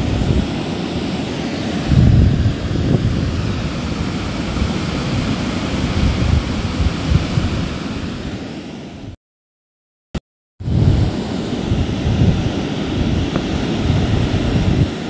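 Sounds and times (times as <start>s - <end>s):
waves washing up beach: 0.0s - 9.2s, 10.6s - 15.0s
wind gusting on microphone: 0.0s - 9.2s, 10.6s - 15.0s.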